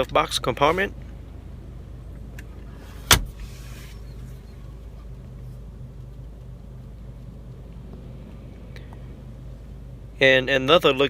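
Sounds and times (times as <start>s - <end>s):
low hum in car cabin: 0.0s - 11.0s.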